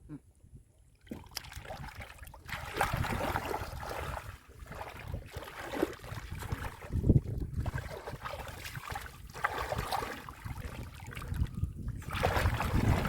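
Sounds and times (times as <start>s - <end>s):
muddy water sloshing and splashing: 0.8s - 13.0s.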